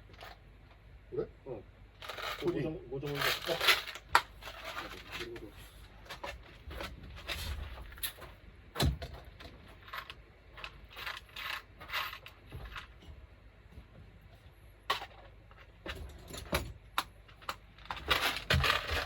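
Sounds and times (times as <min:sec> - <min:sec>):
hardware clicking and rattling: 0:02.0 - 0:13.2, 0:14.9 - 0:19.0.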